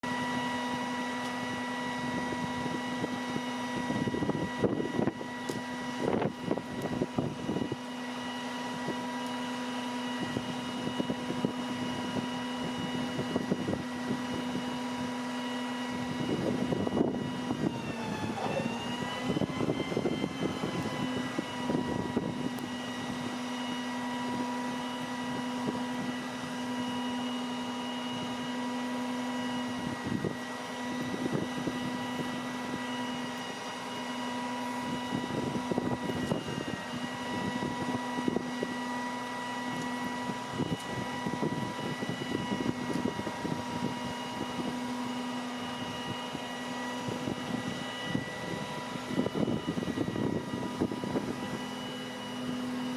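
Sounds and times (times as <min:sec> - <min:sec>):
truck engine and hydraulics whine: 0:00.0 - 0:52.9.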